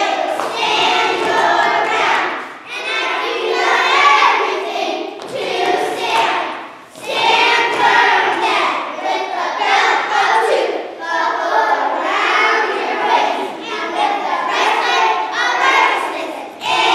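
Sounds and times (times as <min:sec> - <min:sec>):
children singing together: 0:00.0 - 0:16.9.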